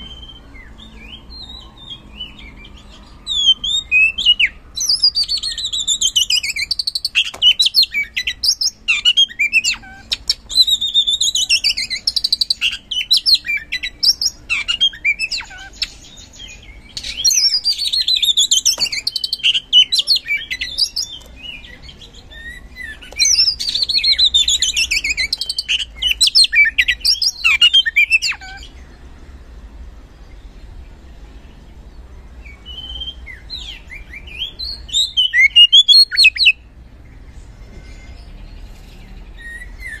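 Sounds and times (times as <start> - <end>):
songbird whistles and trills: 0.0 - 28.8, 32.4 - 36.7, 37.7 - 40.0.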